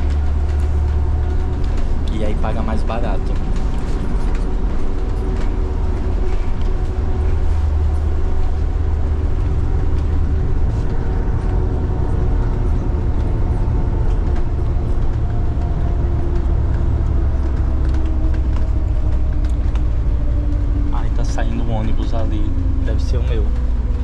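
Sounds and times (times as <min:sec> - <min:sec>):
bus engine rumble: 0:00.0 - 0:24.0
faint whine: 0:00.0 - 0:24.0.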